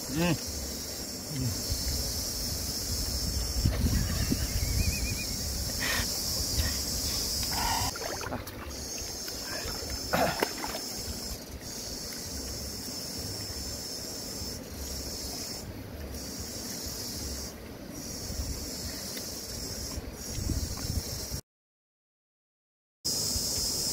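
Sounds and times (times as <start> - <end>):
steady high hiss: 0.0 - 21.4.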